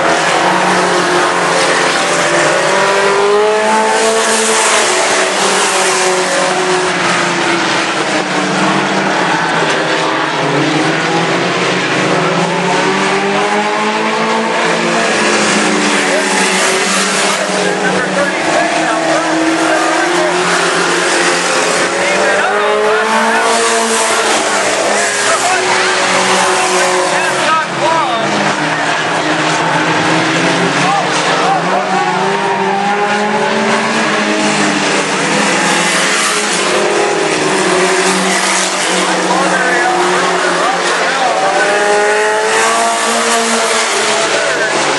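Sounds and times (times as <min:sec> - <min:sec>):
race truck engines revving: 0:00.0 - 0:44.9.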